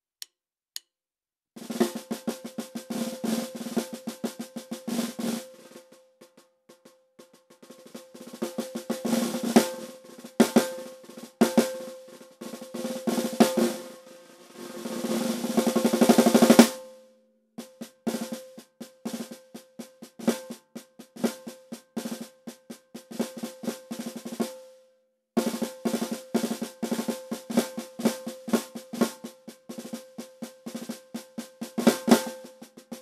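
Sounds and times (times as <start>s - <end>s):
snare drum played with sticks: 1.6s - 17.0s, 17.6s - 24.8s, 25.4s - 33.0s.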